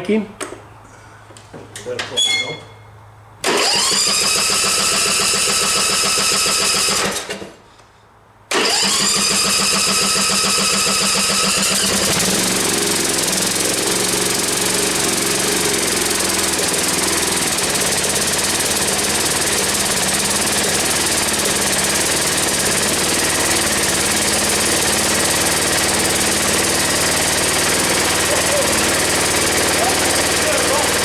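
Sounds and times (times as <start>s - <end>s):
ride-on mower engine running: 3.4s - 7.4s, 8.5s - 31.0s.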